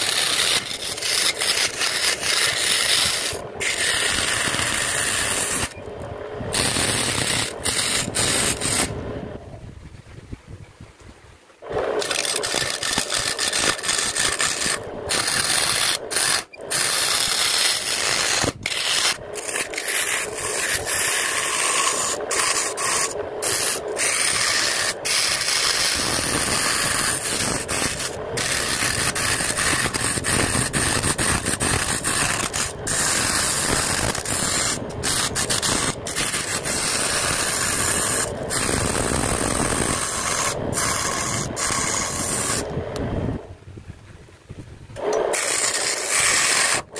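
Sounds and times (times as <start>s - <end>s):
lathe tool scraping wood: 0.0s - 9.4s, 11.6s - 43.0s, 45.0s - 46.9s.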